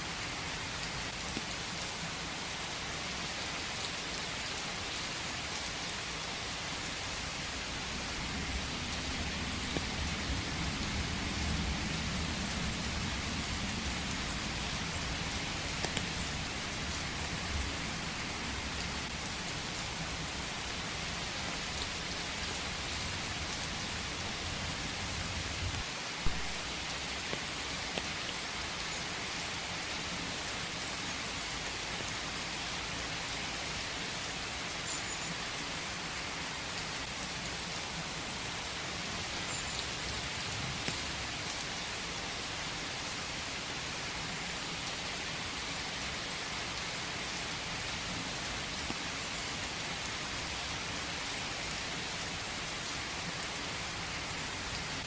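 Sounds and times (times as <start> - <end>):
rain falling in forest: 0.0 - 55.0.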